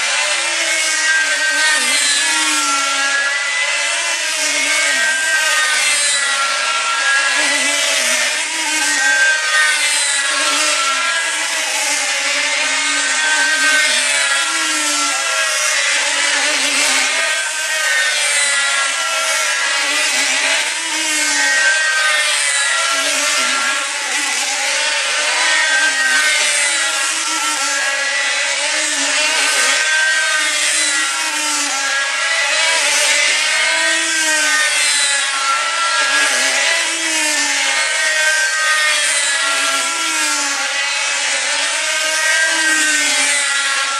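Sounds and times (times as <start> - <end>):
model aircraft engines whining: 0.0 - 43.9.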